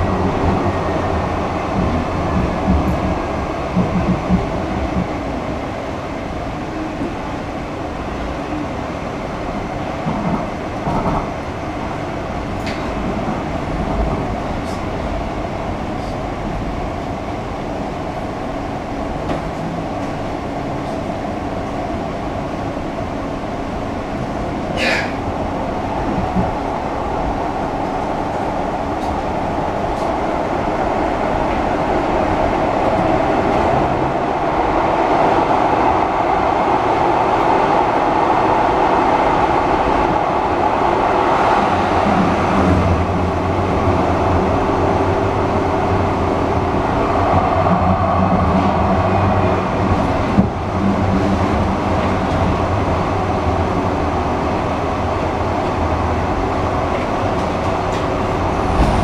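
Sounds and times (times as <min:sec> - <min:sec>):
passing train hum: 0:00.0 - 0:59.0
train wheels rumbling on rail: 0:00.0 - 0:59.0.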